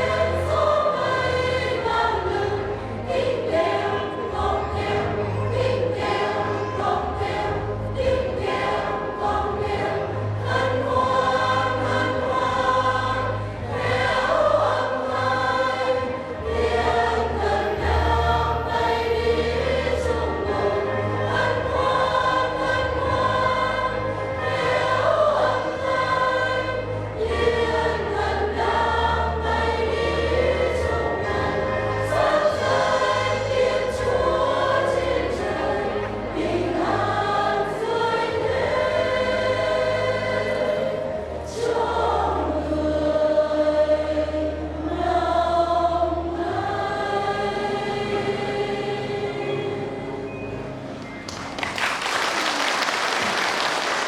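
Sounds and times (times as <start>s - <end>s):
church choir singing a hymn: 0.0s - 51.4s
accompaniment with steady bass: 0.0s - 51.6s.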